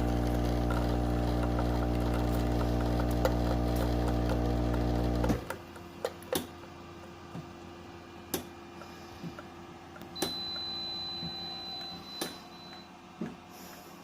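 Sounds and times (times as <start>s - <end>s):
coffee machine humming: 0.0s - 14.0s.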